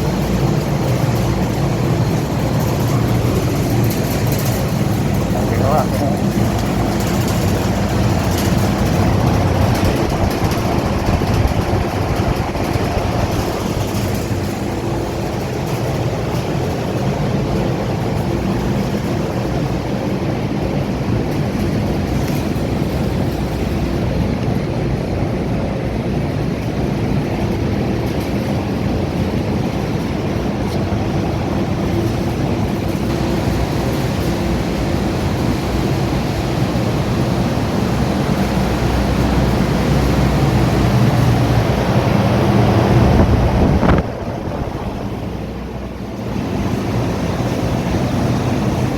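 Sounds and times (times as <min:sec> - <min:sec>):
ventilation fans rushing air: 0:00.0 - 0:48.9.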